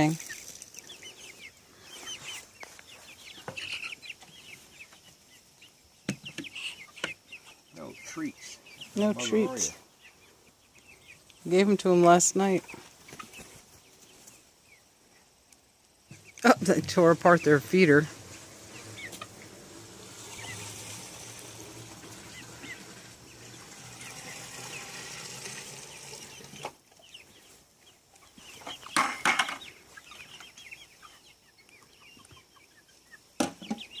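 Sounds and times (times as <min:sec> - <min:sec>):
hens squawking: 0:00.0 - 0:14.6, 0:16.2 - 0:34.0
young hens clucking and chirping: 0:00.0 - 0:34.0.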